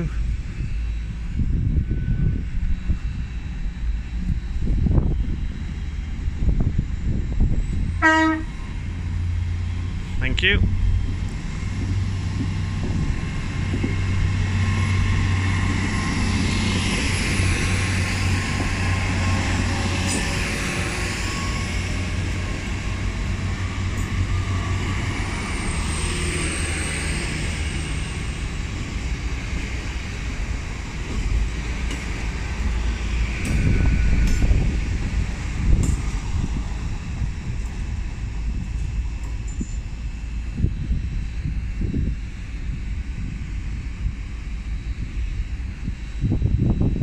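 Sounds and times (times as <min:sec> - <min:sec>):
train engine hum: 0:00.0 - 0:47.0.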